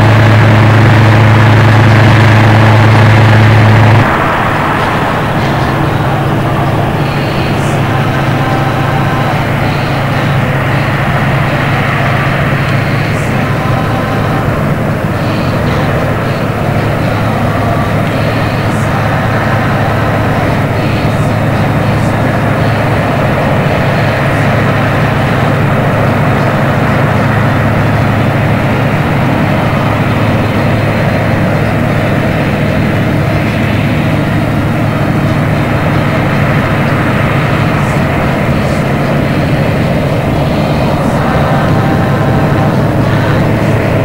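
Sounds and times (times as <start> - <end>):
combine harvester droning: 0.0 - 44.0.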